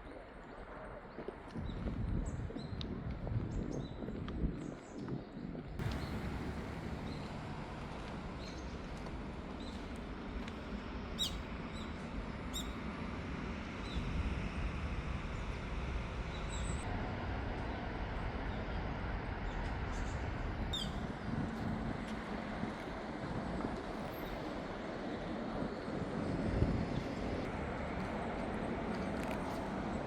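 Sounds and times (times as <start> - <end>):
steady background hum: 5.8 - 30.0.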